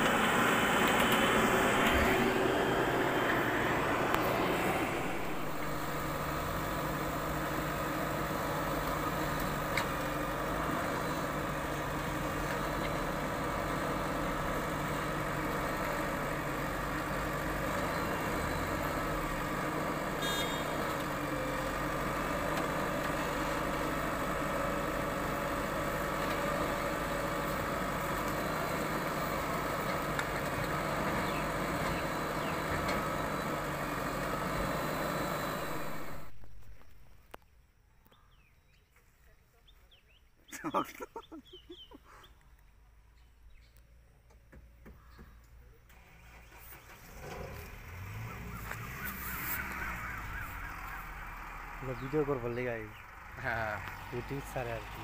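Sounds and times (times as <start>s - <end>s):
diesel engine running: 0.0s - 37.1s, 45.9s - 55.0s.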